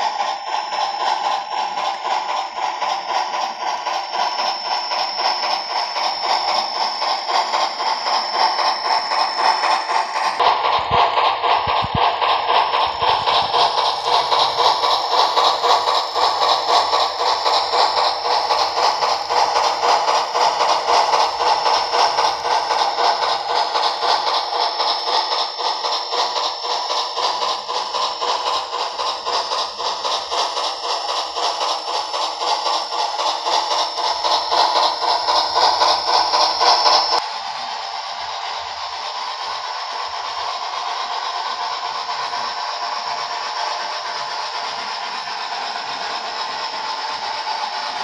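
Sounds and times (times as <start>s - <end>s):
thin steam locomotive chuffing: 0.0s - 48.0s.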